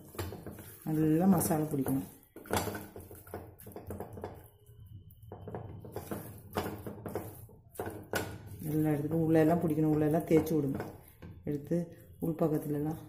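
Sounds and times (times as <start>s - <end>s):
hands squishing wet paste: 0.0s - 12.9s.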